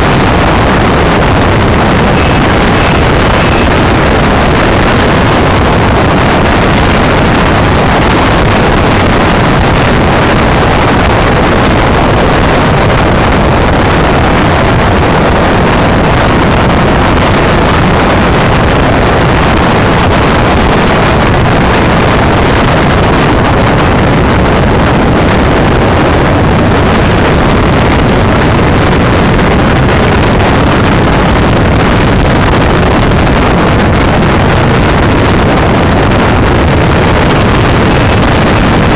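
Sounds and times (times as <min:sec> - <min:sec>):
tyre road rumble: 0:00.0 - 0:38.9
wind buffeting microphone: 0:00.0 - 0:38.9.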